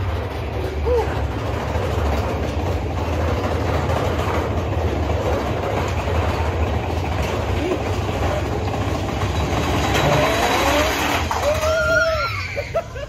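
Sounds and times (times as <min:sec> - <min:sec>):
roller coaster rumble and rattle: 0:00.0 - 0:13.0.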